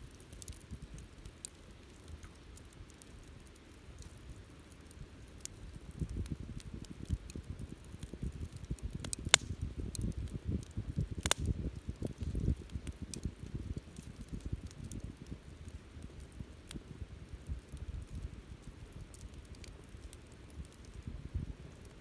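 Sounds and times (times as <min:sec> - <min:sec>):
campfire crackling and popping: 0:00.0 - 0:22.0
low fluttering of flames: 0:00.0 - 0:22.0.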